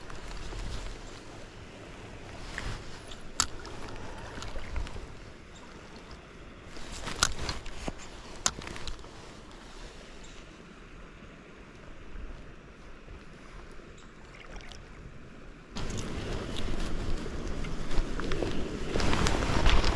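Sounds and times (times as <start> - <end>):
flowing creek water: 0.0 - 19.9.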